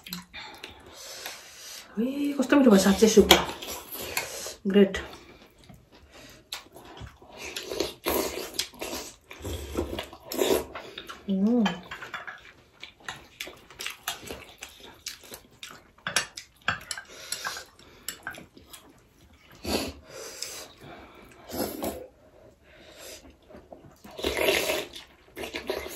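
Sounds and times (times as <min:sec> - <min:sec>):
slurping and chewing: 0:03.4 - 0:25.9.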